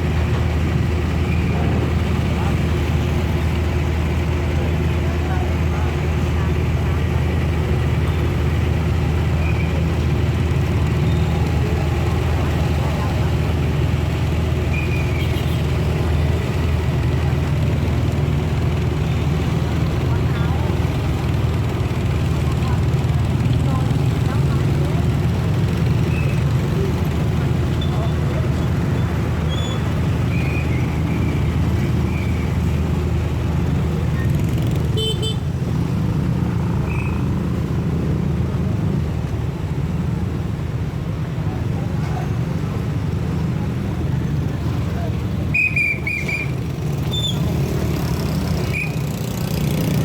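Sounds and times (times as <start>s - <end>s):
low rumble of engines: 0.0s - 50.0s.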